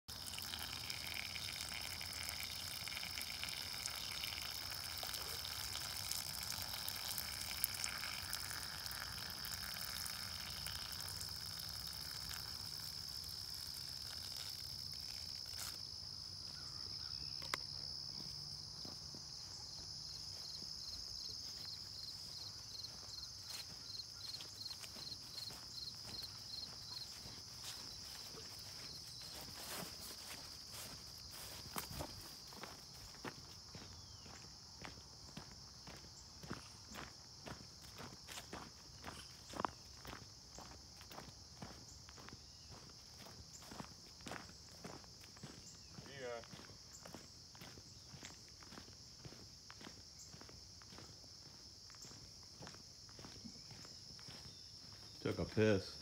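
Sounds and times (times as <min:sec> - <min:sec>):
high-pitched insect chorus: 0:00.2 - 0:56.0.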